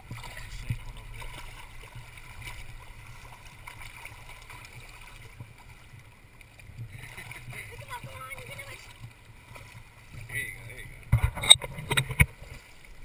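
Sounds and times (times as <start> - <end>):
shallow water sloshing around legs: 0.0 - 13.0
small splashes: 0.0 - 13.0.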